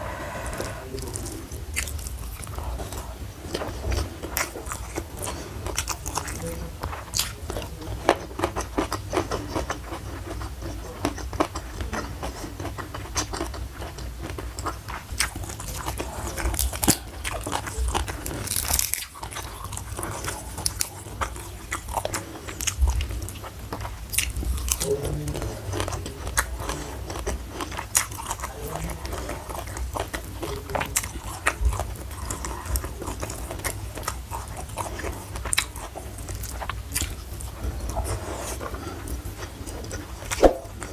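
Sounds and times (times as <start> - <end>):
chewing and crunching food: 0.0 - 40.9.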